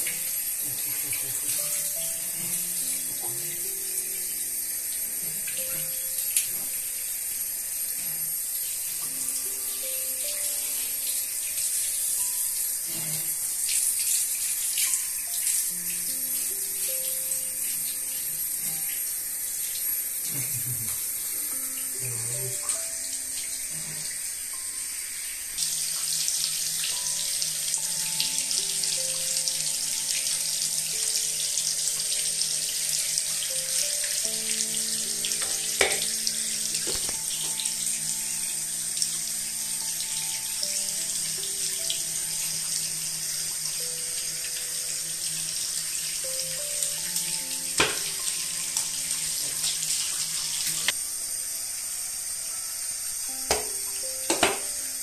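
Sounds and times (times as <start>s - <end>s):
shower spraying on tiled floor: 0.0s - 55.0s
soft background music: 0.0s - 55.0s.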